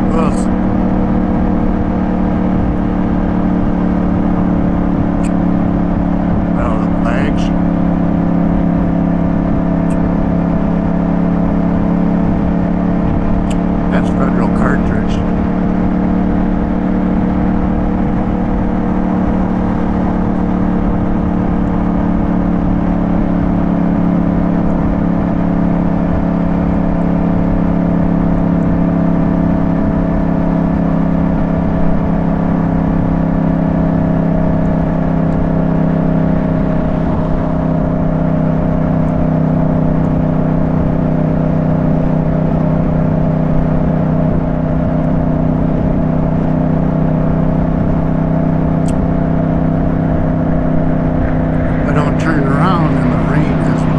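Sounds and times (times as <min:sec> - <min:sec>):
motorcycle engine cruising: 0:00.0 - 0:53.9
road and wind noise: 0:00.0 - 0:53.9.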